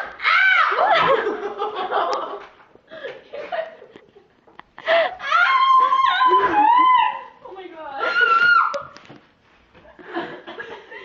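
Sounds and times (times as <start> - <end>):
girls laughing: 0.6 - 7.4, 8.0 - 9.0, 9.9 - 11.0.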